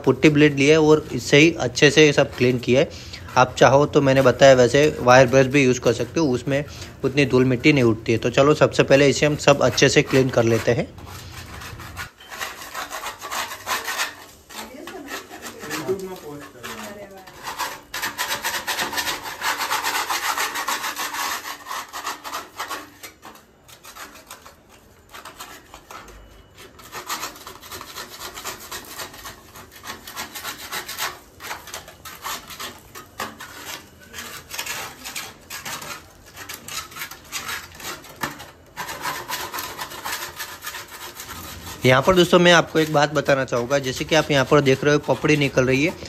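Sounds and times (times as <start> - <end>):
putty blade scraping paint off wall: 0.0 - 46.0.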